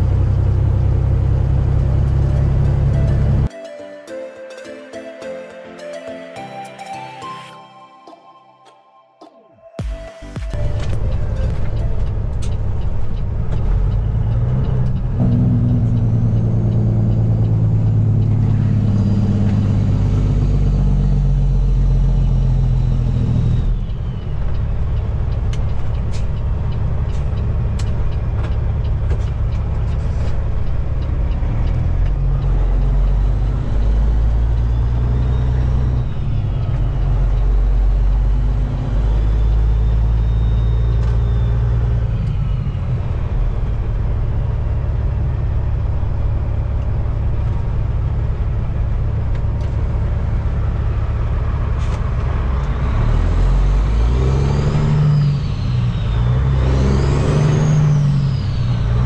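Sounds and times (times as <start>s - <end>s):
truck diesel engine rumbling: 0.0s - 3.5s, 10.6s - 59.0s.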